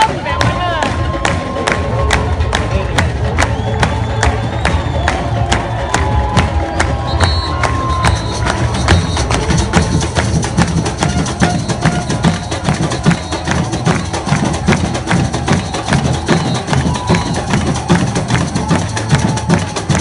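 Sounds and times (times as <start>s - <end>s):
deep bass drum pulses: 0.0s - 20.0s.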